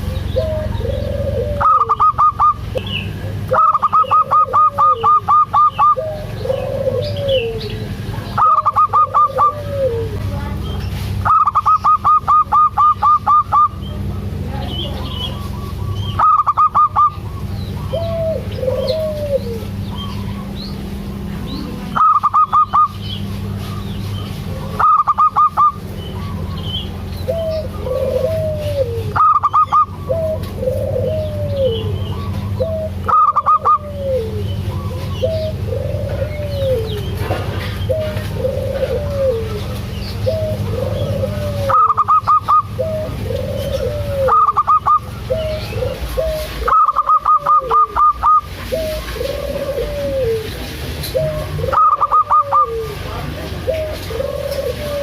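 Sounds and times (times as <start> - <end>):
doves staccato calls: 0.0 - 55.0
soft dove coos: 0.0 - 55.0
steady low hum: 0.0 - 55.0.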